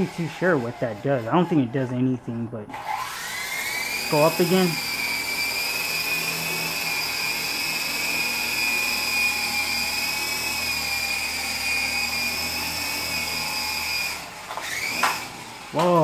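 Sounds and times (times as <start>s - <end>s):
toy helicopter rotors whining: 0.0s - 16.0s.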